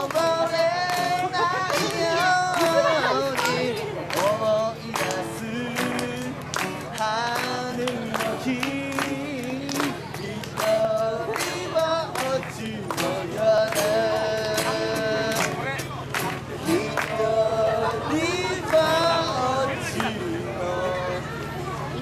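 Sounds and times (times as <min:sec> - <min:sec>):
man singing: 0:00.0 - 0:15.7, 0:16.6 - 0:21.4
acoustic guitar strumming: 0:00.0 - 0:22.0.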